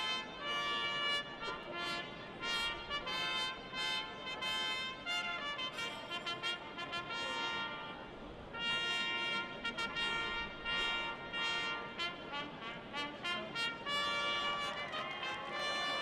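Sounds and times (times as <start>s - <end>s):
brass music with trumpets: 0.0s - 16.0s.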